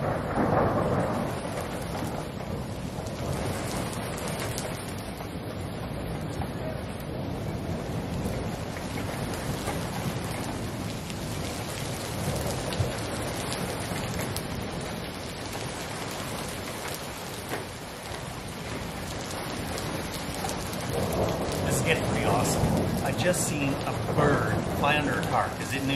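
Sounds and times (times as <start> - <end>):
rain falling steadily: 0.0 - 25.9
raindrops hitting nearby surfaces: 0.0 - 25.9.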